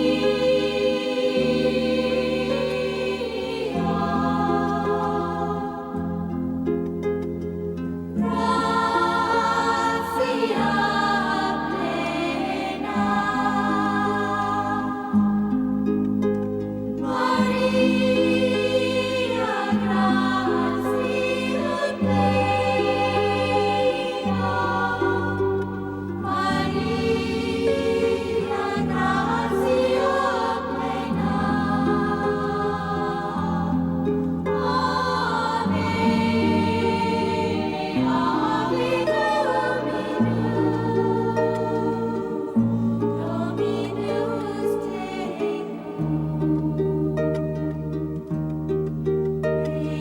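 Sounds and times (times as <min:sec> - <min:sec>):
choir singing held chords: 0:00.0 - 0:50.0.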